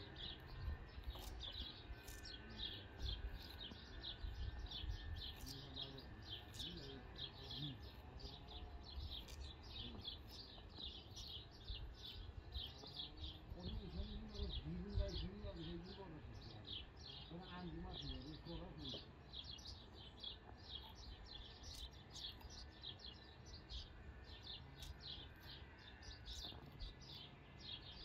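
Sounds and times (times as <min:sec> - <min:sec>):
bird chirping: 0:00.0 - 0:28.0.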